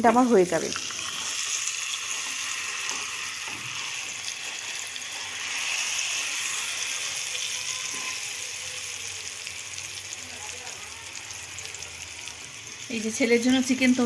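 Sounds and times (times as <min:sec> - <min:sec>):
chicken sizzling in a frying pan: 0:00.0 - 0:14.0.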